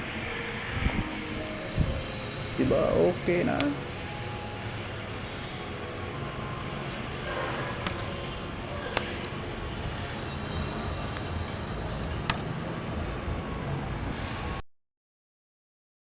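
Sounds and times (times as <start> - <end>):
background hum and hiss: 0.0 - 14.6.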